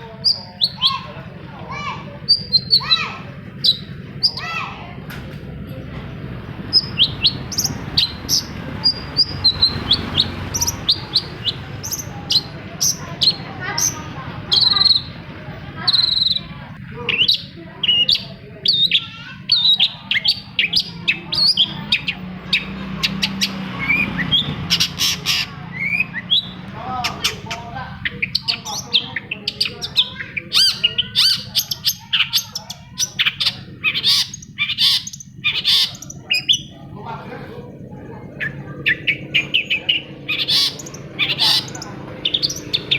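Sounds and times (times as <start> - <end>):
bird chirping song: 0.0 - 4.6, 6.4 - 42.9.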